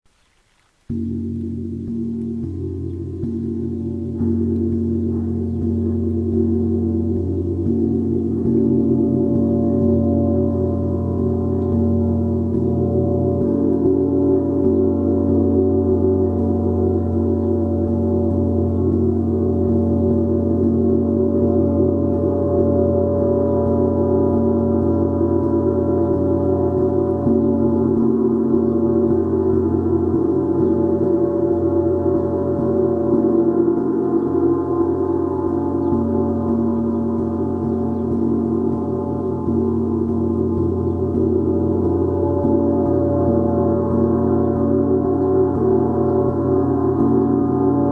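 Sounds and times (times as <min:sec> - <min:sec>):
gong sounding: 0:00.9 - 0:47.9.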